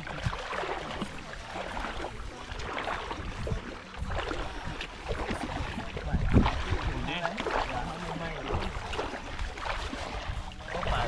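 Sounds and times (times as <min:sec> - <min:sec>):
water sloshing around wading legs: 0:00.0 - 0:11.0.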